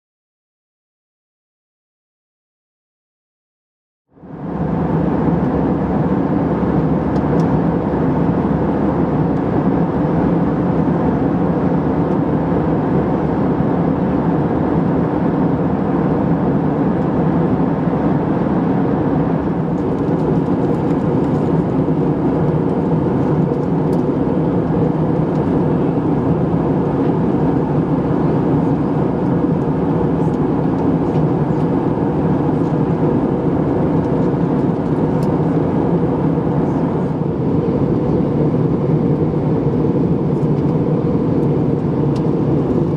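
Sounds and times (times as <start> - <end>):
aircraft engine drone: 4.1 - 42.9.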